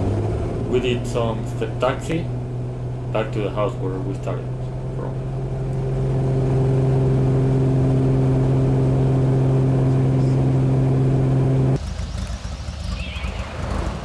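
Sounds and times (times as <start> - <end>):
airplane engine drone: 0.0 - 14.0
rough engine from outside: 0.0 - 14.0.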